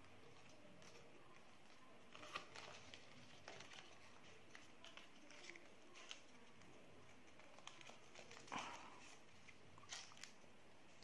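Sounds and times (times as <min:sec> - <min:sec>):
paper rustling and crinkling: 0:00.2 - 0:11.0.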